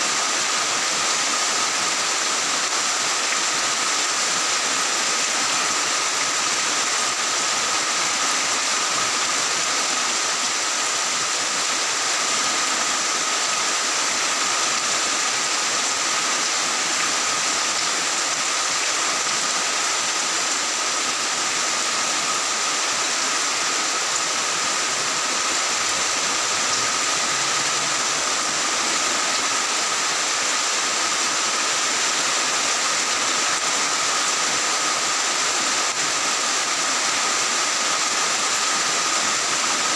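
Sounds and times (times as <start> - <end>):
heavy rain on tile roofs: 0.0 - 39.9.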